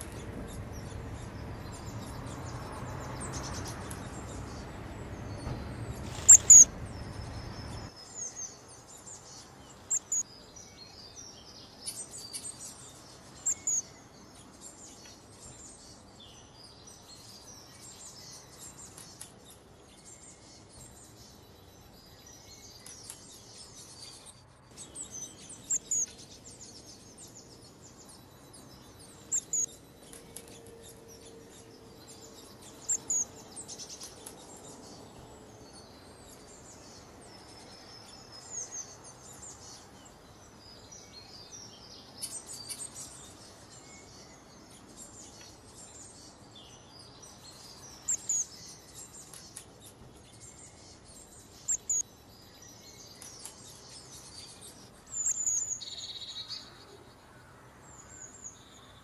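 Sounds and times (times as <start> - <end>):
low background noise: 0.0 - 59.0
small birds twittering: 0.0 - 59.0.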